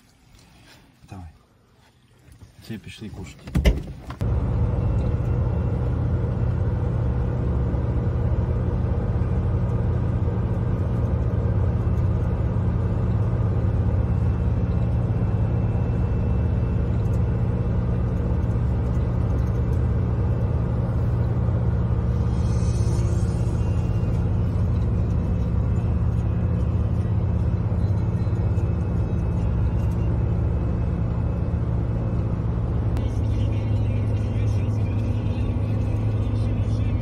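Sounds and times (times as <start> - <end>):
vehicle rumble inside cabin: 0.1 - 37.0.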